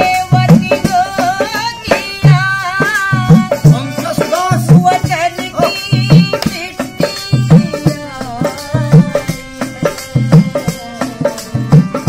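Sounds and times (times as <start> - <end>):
hand drum rhythm: 0.0 - 12.0
harmonium melody: 0.0 - 12.0.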